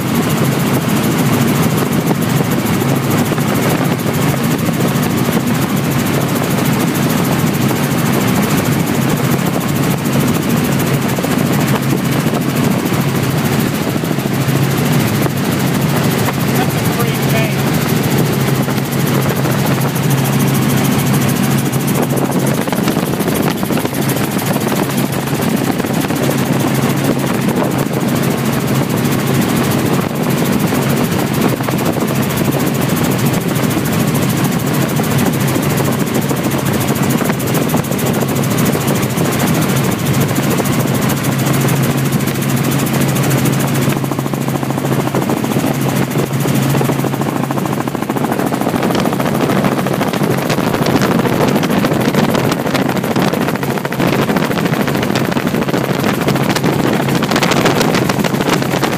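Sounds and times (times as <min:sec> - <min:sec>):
helicopter rotor and engine: 0:00.0 - 0:58.9.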